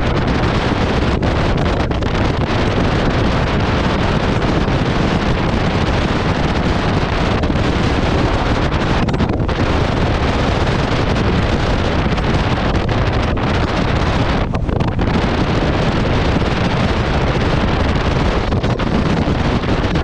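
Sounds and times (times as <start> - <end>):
wind buffeting a microphone: 0.0 - 20.0.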